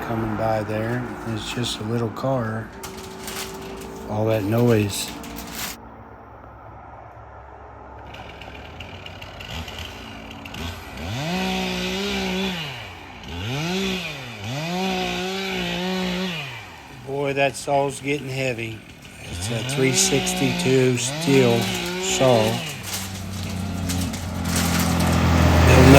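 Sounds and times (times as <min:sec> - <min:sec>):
chainsaw engine revving: 0:00.0 - 0:05.8, 0:08.1 - 0:25.9.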